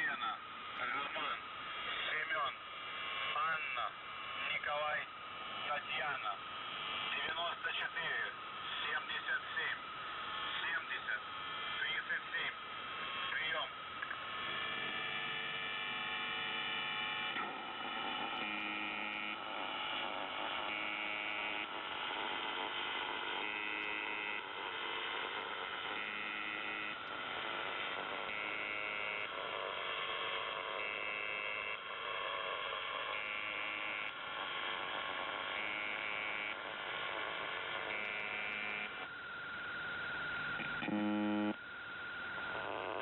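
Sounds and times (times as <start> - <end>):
radio buzz: 0.0 - 43.0
radio hum and static: 0.0 - 43.0.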